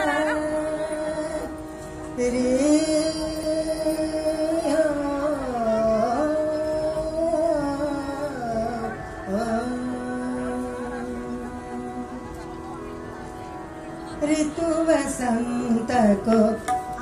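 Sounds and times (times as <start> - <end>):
classical singing over loudspeakers: 0.0 - 17.0.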